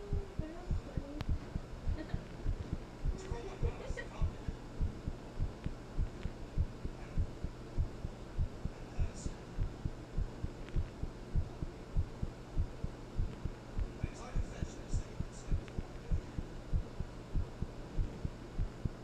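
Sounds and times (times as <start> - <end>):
constant low hum: 0.0 - 19.0
heartbeat thumps: 0.0 - 19.0.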